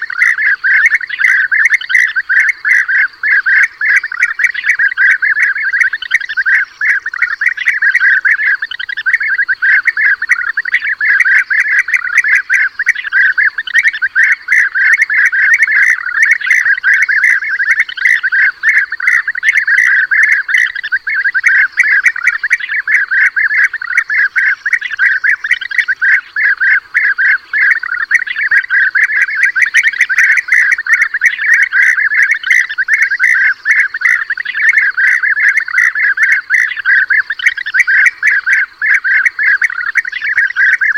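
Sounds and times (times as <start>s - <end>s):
flock of birds calling: 0.0s - 40.9s.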